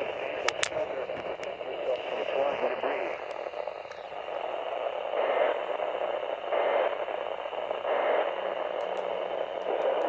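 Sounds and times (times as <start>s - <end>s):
radio static and hiss: 0.0s - 10.0s.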